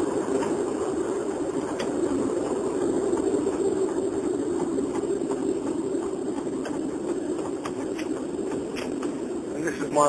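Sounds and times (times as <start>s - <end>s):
car engine and road noise: 0.0s - 9.8s.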